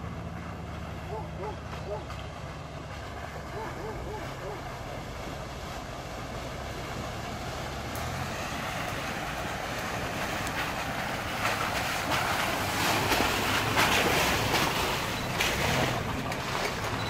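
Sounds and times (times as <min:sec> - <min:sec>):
engine rumble: 0:00.0 - 0:17.0
tyres on rough terrain: 0:00.0 - 0:17.0.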